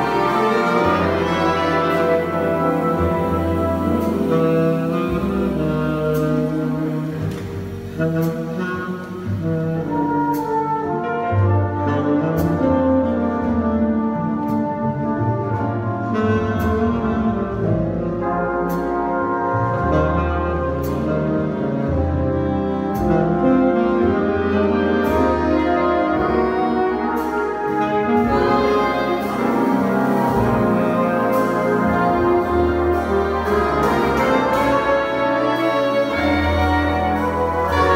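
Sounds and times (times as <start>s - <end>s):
jazz big band playing: 0.0s - 37.9s.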